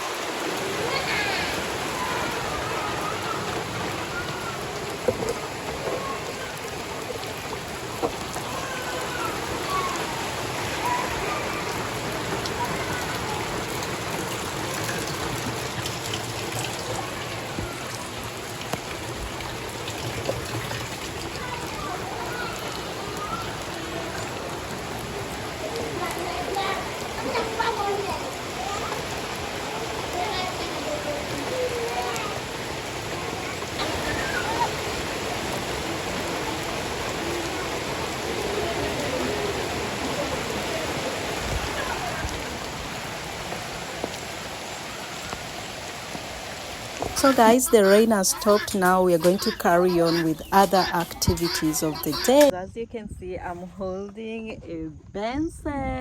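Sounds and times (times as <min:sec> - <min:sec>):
drips and splashes: 0:00.0 - 0:52.5
heavy rain hissing: 0:00.0 - 0:52.5.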